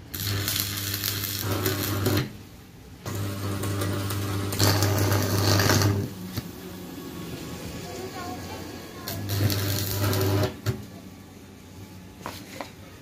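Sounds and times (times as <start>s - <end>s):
welding arc crackling and buzzing: 0.0s - 10.9s.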